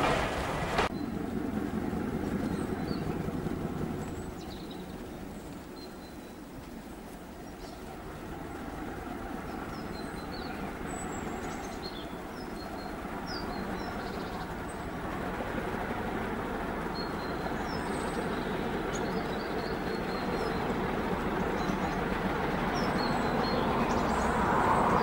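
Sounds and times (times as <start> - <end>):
diesel train rumble: 0.0 - 25.0
small birds chirping: 2.1 - 25.0.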